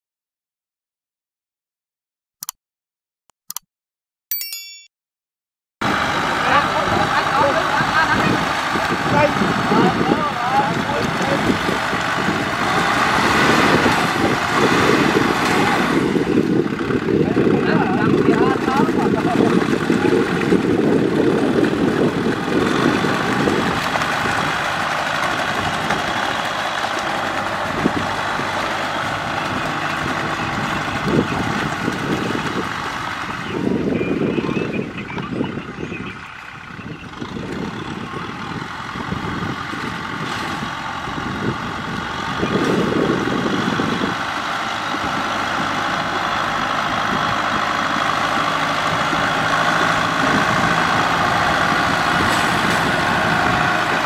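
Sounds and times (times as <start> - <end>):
tractor diesel engine under load: 5.8 - 54.0.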